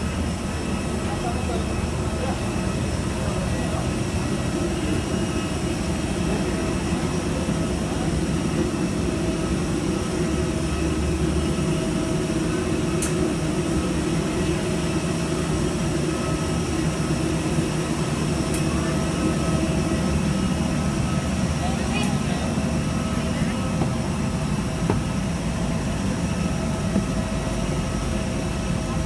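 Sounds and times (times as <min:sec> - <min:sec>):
airliner cabin engine drone: 0:00.0 - 0:29.0.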